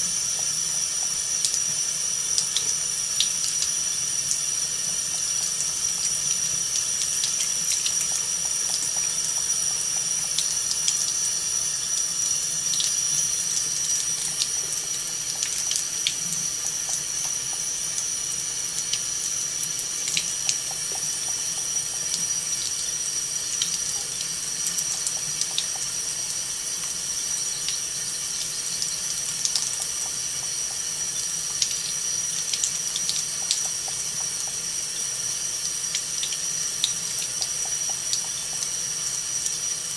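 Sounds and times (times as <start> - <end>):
faucet running in thin stream: 0.0 - 39.9.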